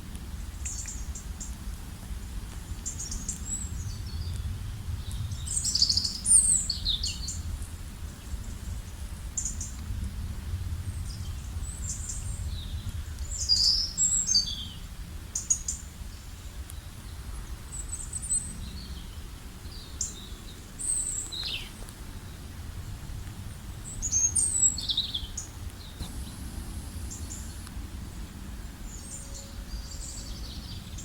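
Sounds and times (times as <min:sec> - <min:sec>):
steady low rumble: 0:00.0 - 0:15.3, 0:16.1 - 0:31.0
songbirds chirping: 0:00.1 - 0:10.0, 0:10.6 - 0:31.0.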